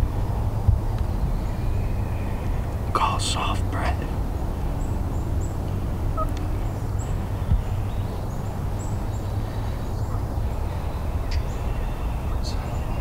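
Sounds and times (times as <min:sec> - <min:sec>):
songbirds chirping: 0:00.0 - 0:13.0
steady low rumble: 0:00.0 - 0:13.0.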